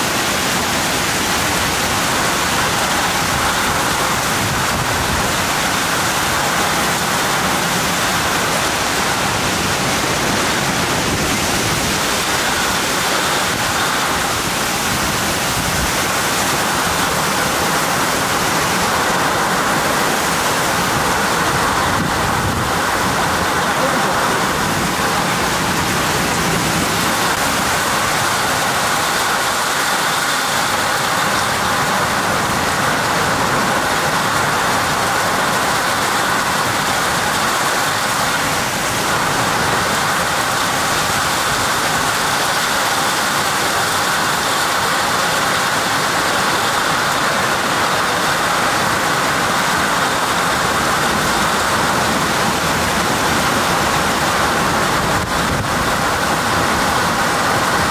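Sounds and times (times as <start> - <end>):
heavy rain hissing: 0.0 - 57.9.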